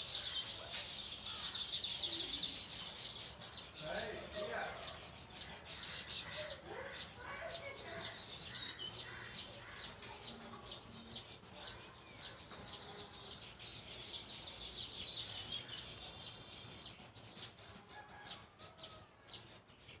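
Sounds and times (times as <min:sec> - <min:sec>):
small birds chirping and trilling: 0:00.0 - 0:20.0.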